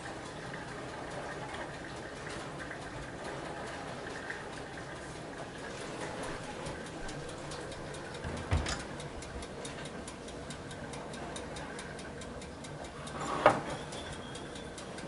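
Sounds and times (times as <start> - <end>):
light even ticking: 0.0 - 15.0.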